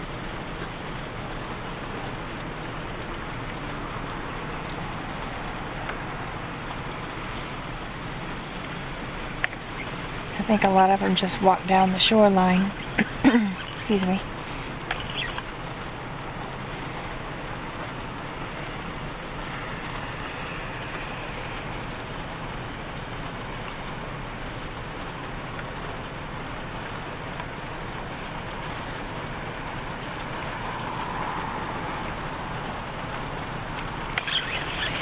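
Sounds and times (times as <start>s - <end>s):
rain hiss inside vehicle: 0.0s - 35.0s.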